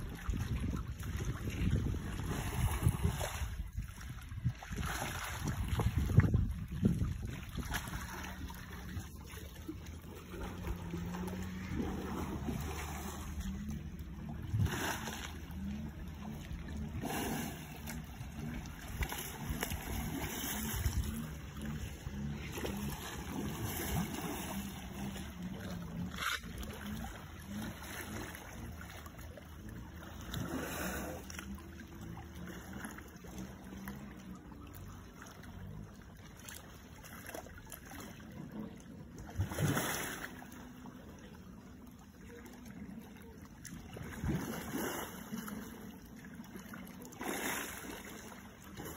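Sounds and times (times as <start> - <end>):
muddy water sloshing: 0.0 - 48.9
water splashes: 0.0 - 48.9.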